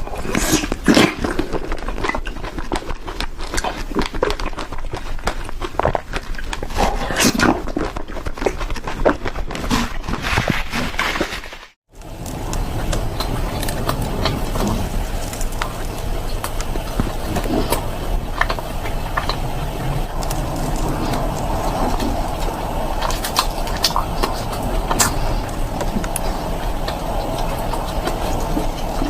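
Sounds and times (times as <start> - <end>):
chewing and crunching sweets: 0.0 - 29.0.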